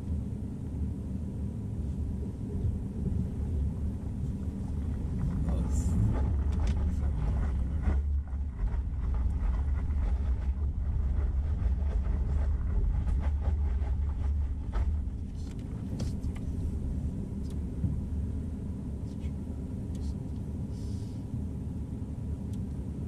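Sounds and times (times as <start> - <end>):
vehicle engine and tyres rumbling: 0.0 - 23.0.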